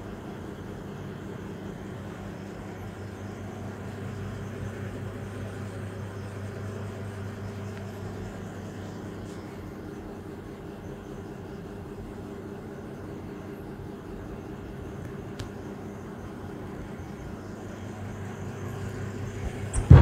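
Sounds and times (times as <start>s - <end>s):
fridge compressor humming: 0.0s - 20.0s.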